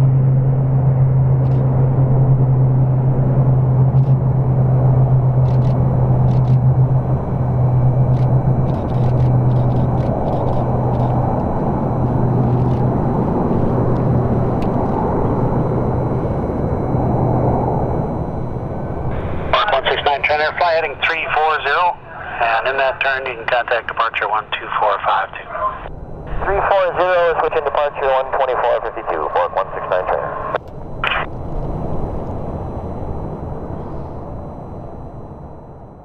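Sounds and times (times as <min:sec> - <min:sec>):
propeller plane drone: 0:00.0 - 0:36.0.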